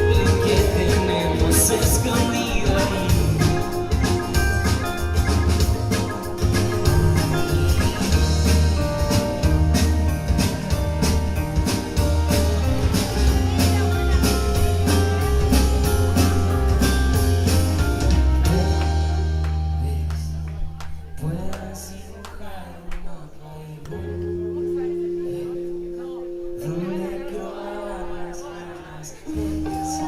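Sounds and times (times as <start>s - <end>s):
live band playing: 0.0s - 21.2s, 24.1s - 30.0s.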